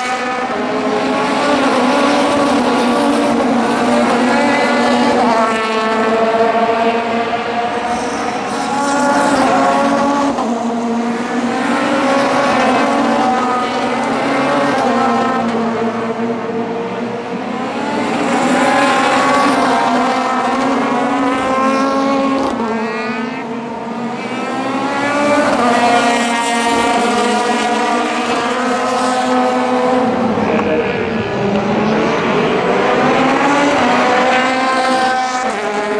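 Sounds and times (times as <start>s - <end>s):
race cars passing: 0.0s - 35.9s.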